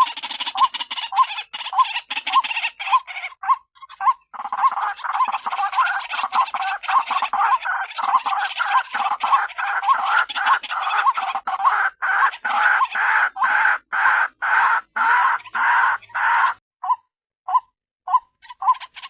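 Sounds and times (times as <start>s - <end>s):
waterhen croaking call: 0.0s - 16.6s.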